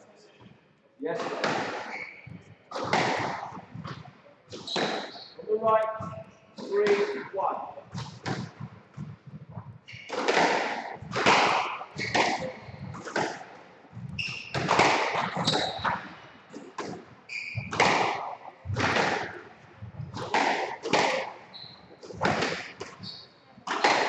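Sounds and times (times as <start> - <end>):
squash ball hitting rackets and walls: 1.1 - 24.0
shoes squeaking on wooden floor: 1.2 - 24.0.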